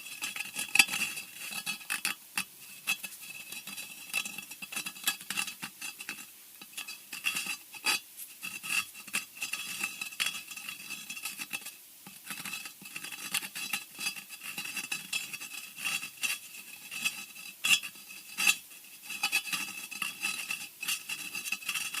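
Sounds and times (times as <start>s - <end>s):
rapid scratching on hard surface: 0.0s - 22.0s.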